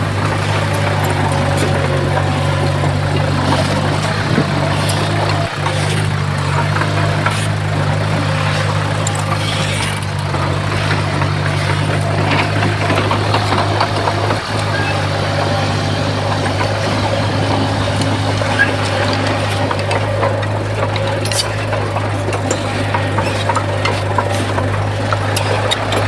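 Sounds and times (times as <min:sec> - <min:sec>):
diesel machinery engine hum: 0:00.0 - 0:26.0.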